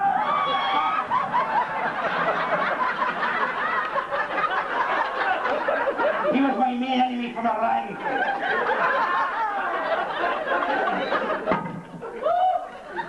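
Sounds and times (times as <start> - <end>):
audience laughing: 0.0 - 6.8, 7.5 - 13.0.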